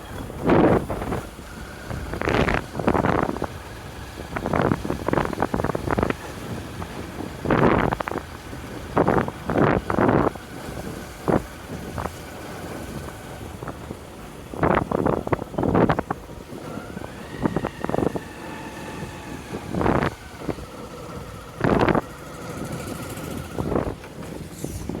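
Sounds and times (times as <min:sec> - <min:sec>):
motorcycle riding: 0:00.0 - 0:25.0
wind buffeting microphone: 0:00.0 - 0:25.0.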